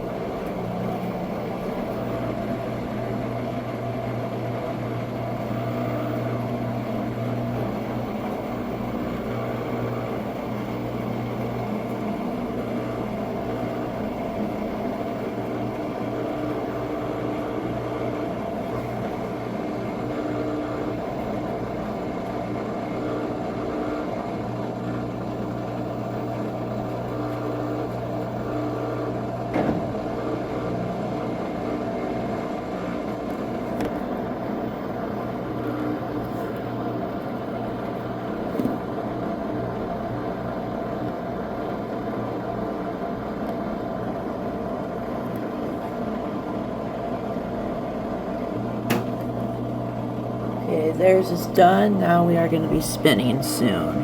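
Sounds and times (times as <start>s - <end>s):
drain pump humming: 0.0s - 54.0s.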